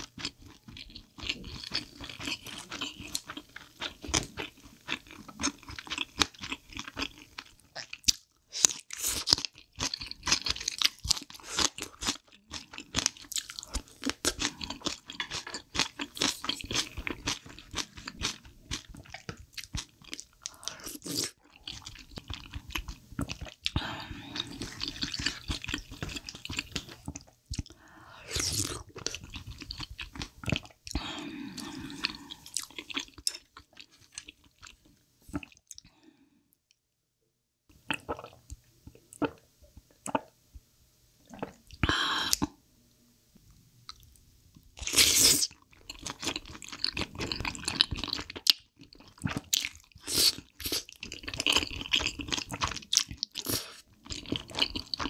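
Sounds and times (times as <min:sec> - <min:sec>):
chewing and eating sounds: 0:00.0 - 0:35.9, 0:44.8 - 0:55.0.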